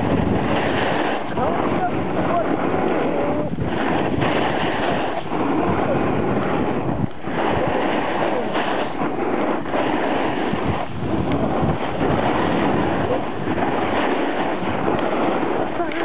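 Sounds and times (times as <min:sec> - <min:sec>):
wind over microphone: 0:00.0 - 0:16.0.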